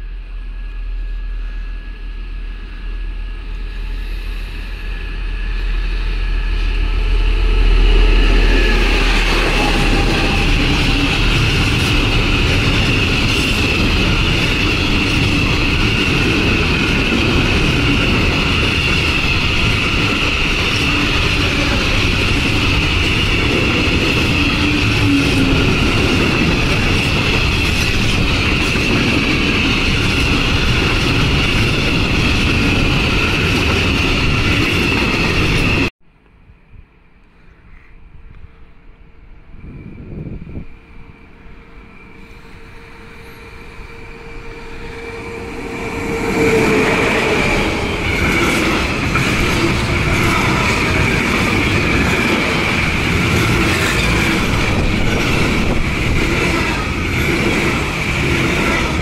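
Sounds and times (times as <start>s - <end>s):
diesel locomotive engine hum: 0.0s - 59.0s.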